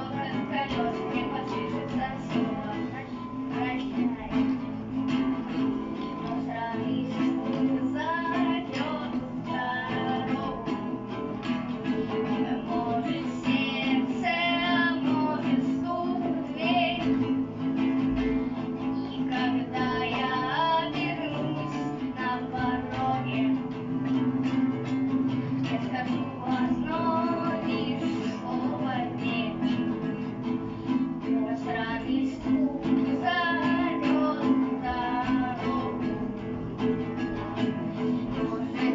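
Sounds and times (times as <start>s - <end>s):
person singing: 0.0s - 38.9s
strummed guitar chords: 0.0s - 38.9s.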